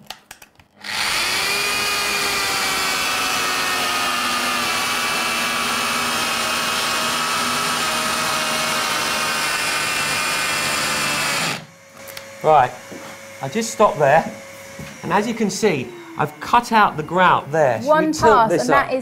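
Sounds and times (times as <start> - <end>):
circular saw whining: 0.8 - 18.6.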